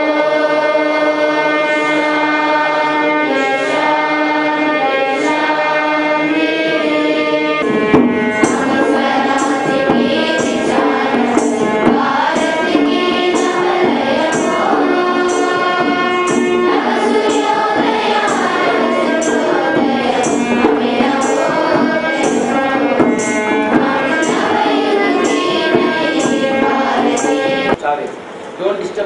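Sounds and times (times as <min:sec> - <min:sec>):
girls' choir singing: 0:00.0 - 0:27.8
students singing together: 0:00.0 - 0:27.8
percussion beats: 0:00.0 - 0:28.5.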